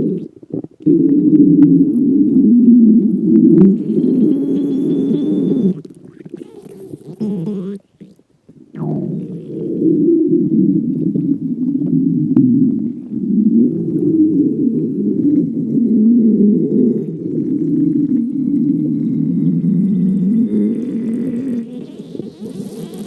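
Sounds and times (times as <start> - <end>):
stomach growling: 0.0 - 23.0.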